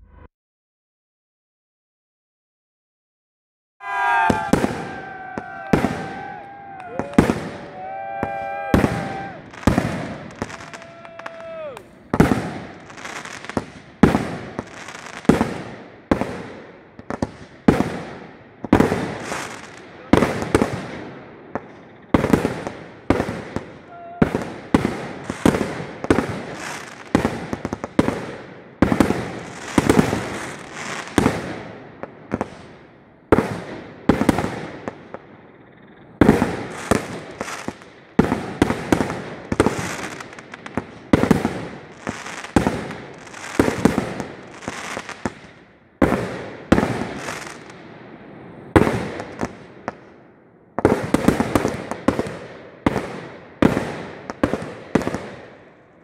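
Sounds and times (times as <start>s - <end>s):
fireworks bursting with sharp bangs: 3.8s - 56.0s.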